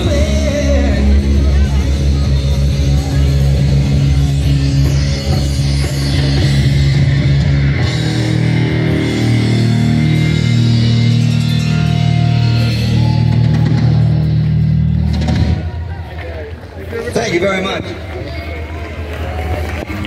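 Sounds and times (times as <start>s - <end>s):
bass line: 0.0s - 17.0s
electric guitar: 0.0s - 17.0s
rock band playing: 0.0s - 17.1s.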